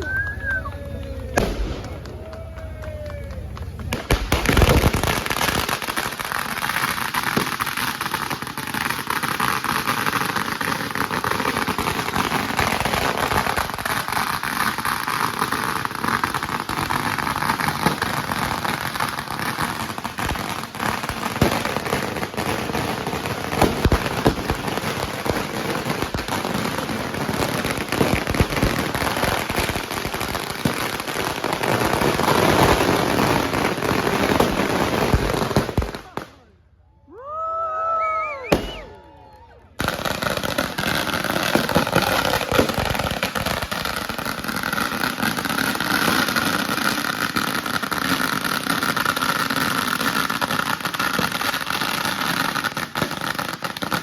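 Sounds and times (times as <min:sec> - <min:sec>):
firework bangs: 0:00.0 - 0:36.5, 0:38.4 - 0:39.0, 0:39.8 - 0:54.0
fireworks crackling: 0:00.0 - 0:36.7, 0:38.2 - 0:54.0.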